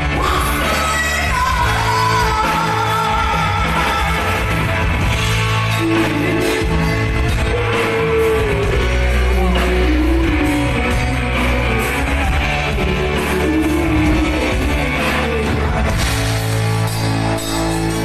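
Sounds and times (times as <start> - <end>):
woman singing: 0.0 - 16.0
live rock band: 0.0 - 18.0.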